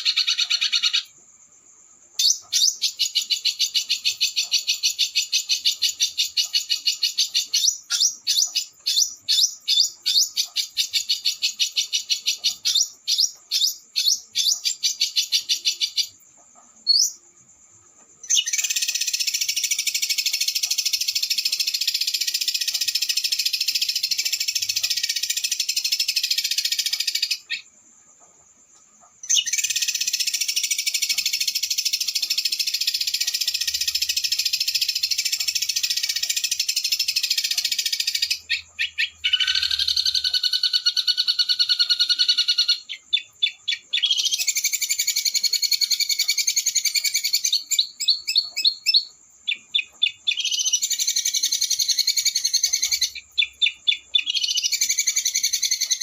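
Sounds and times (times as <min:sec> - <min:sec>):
songbird trilling: 0:00.0 - 0:01.2, 0:02.2 - 0:16.2, 0:18.2 - 0:27.7, 0:29.2 - 0:56.0.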